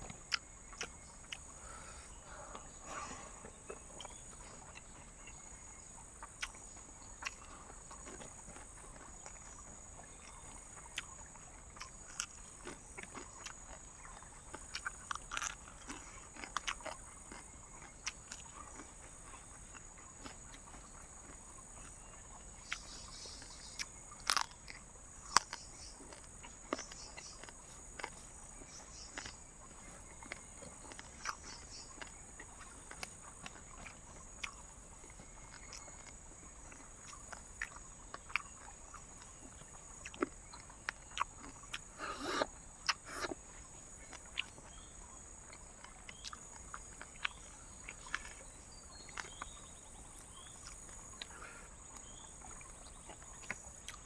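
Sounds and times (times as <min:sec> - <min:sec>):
night insects droning: 0:00.0 - 0:54.0
person chewing crispy pork: 0:00.1 - 0:02.7, 0:03.4 - 0:54.0.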